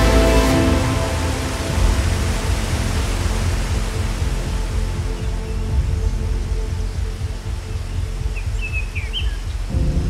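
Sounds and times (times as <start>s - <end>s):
falling water rushing: 0.0s - 10.0s
music with heavy bass: 0.0s - 10.0s.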